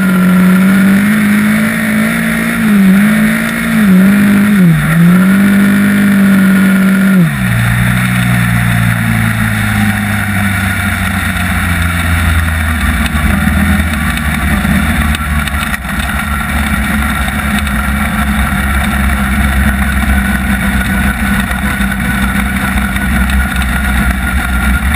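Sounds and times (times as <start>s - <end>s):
race car engine running: 0.0s - 24.9s.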